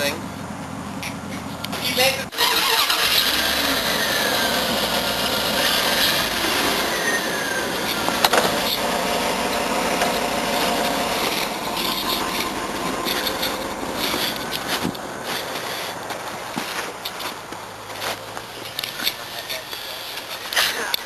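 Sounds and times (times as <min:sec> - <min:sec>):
pickup truck engine running: 0:00.0 - 0:20.6.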